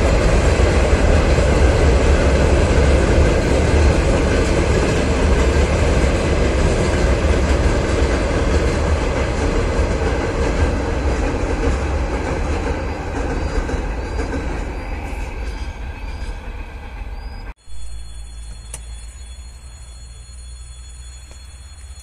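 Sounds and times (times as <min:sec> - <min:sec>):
train wagons rumbling over bridge: 0:00.0 - 0:18.7.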